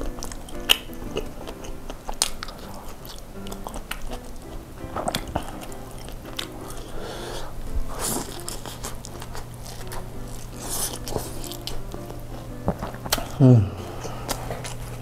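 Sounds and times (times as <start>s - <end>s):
background music: 0.0s - 15.0s
wet chewing and smacking: 0.0s - 15.0s.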